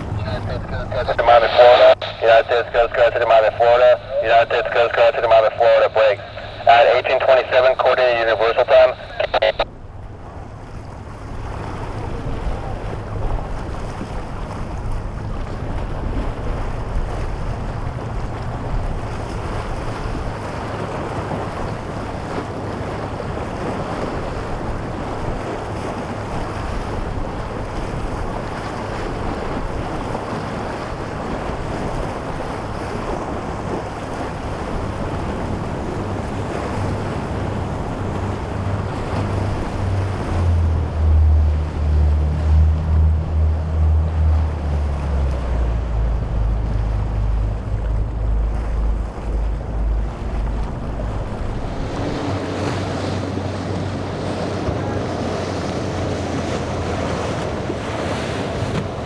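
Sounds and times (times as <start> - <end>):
boat engine rumble: 0.0 - 59.0
choppy surf: 0.0 - 59.0.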